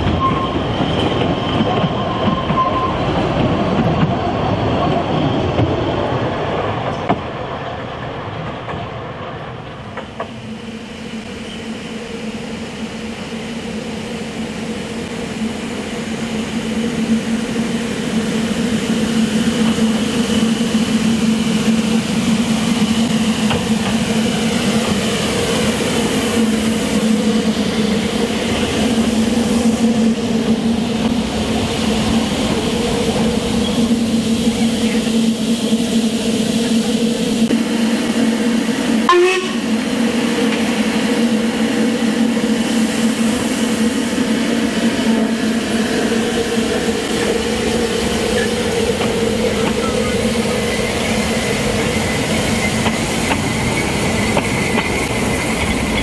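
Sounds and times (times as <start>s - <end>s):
train wheels and carriages rumbling: 0.0s - 56.0s.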